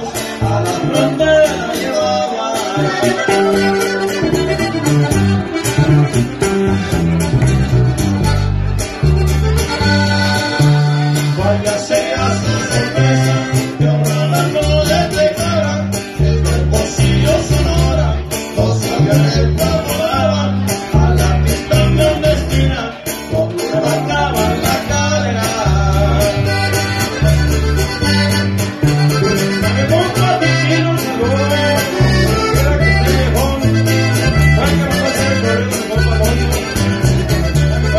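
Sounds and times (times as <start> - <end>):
person singing: 0.0 - 5.1, 10.8 - 27.9, 29.1 - 37.9
strummed and picked guitars: 0.0 - 37.9
deep bouncing bass line: 2.8 - 37.9.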